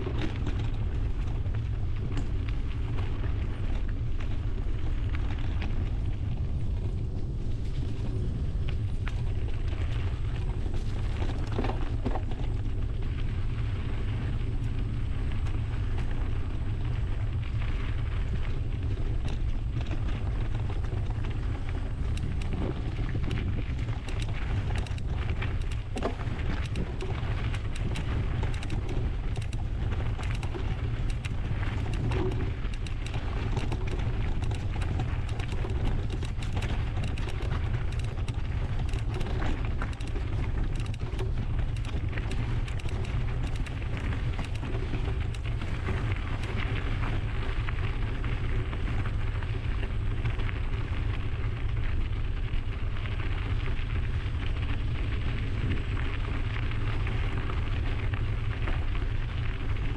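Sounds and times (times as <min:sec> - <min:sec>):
bike clicks and rattles: 0:00.0 - 0:59.9
wind buffeting microphone: 0:00.0 - 0:59.9.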